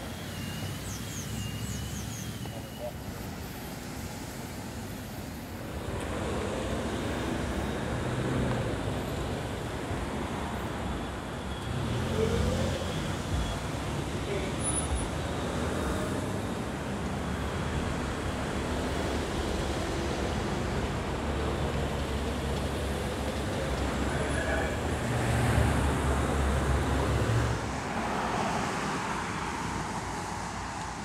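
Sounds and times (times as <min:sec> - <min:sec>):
cars and trucks driving past: 0:00.0 - 0:31.0.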